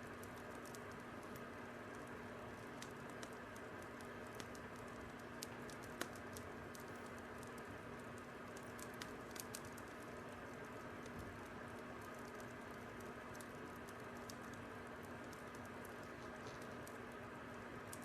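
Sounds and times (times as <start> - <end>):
fire crackling faintly: 0.0 - 18.0
low hiss and hum: 0.0 - 18.0.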